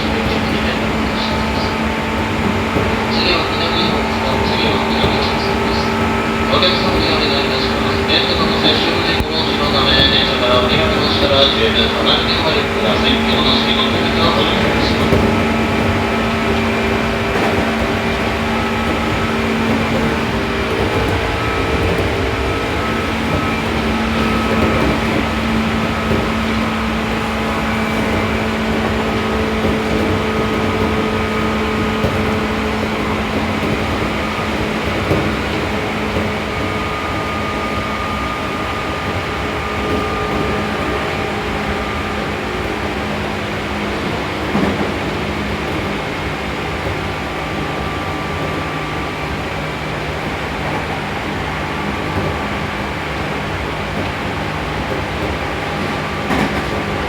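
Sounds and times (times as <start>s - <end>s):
traction equipment hum: 0.0s - 57.0s
train wheel and rail noise: 0.0s - 57.0s.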